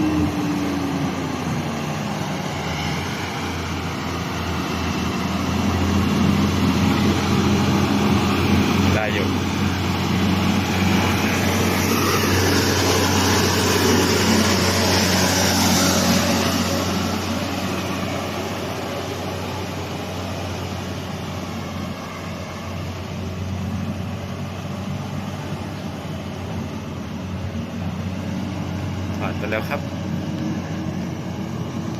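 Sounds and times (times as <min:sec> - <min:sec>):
diesel truck engine under load: 0:00.0 - 0:31.9.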